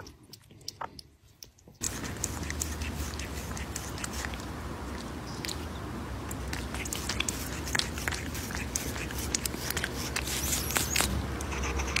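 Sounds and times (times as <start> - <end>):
cat licking paw: 0.0 - 12.0
low steady hum: 0.0 - 12.0.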